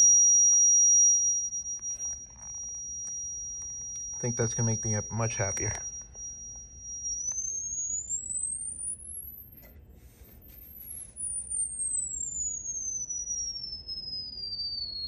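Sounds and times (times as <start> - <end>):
sine tone frequency sweep: 0.0 - 15.0.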